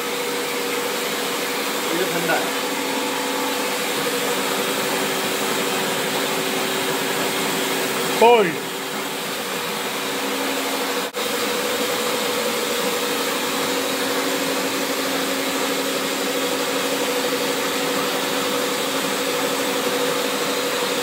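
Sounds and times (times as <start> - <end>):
extrusion machine whirring hum: 0.0 - 21.0.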